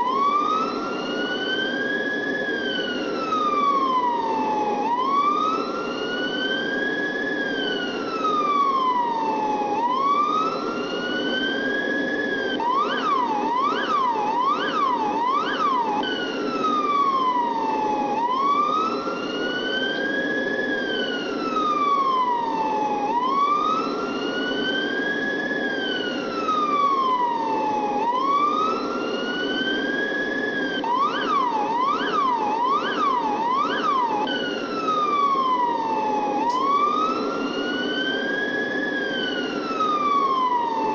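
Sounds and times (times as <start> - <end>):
police siren wailing and yelping: 0.0 - 40.9.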